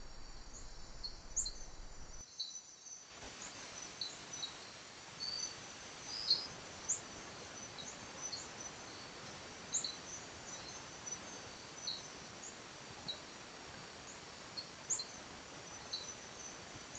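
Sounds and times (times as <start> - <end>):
faint steady hiss: 0.0 - 16.9.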